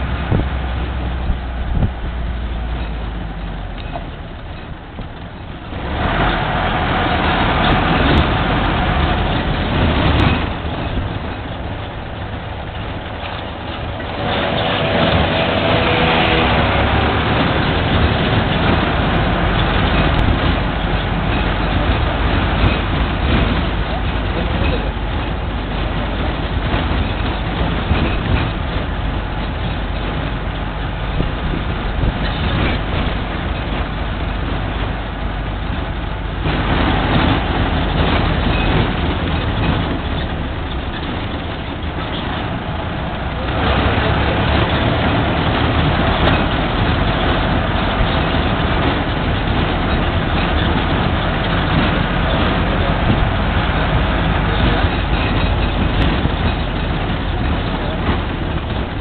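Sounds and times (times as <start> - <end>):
truck tyres and engine rumble: 0.0 - 59.0
wind on microphone: 0.0 - 59.0.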